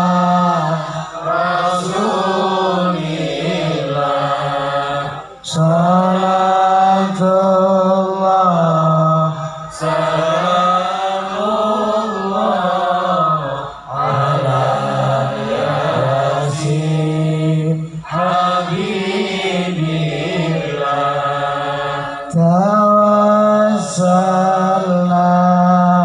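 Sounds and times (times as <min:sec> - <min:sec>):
man chanting over loudspeakers: 0:00.0 - 0:26.0.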